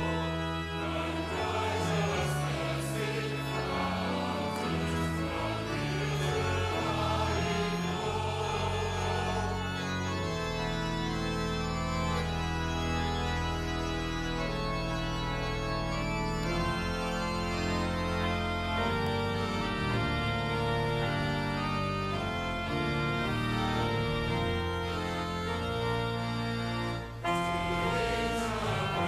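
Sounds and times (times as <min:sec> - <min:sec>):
church choir singing: 0:00.0 - 0:29.0
organ chords: 0:00.0 - 0:29.0.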